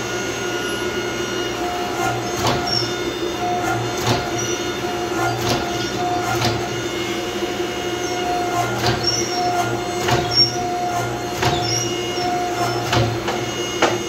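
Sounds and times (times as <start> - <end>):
power hammer humming and pulsing: 0.0 - 14.0.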